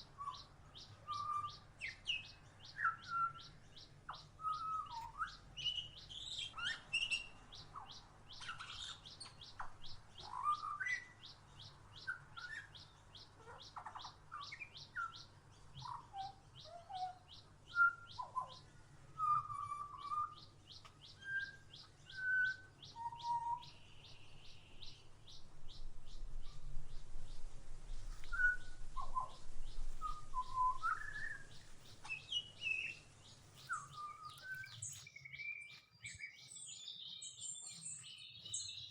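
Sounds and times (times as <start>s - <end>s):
birds chirping and whistling: 0.2s - 38.9s.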